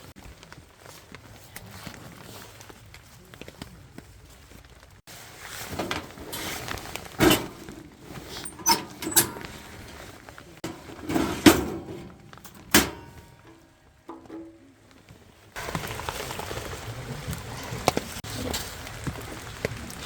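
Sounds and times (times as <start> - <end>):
rustling and handling noise: 0.0 - 20.0.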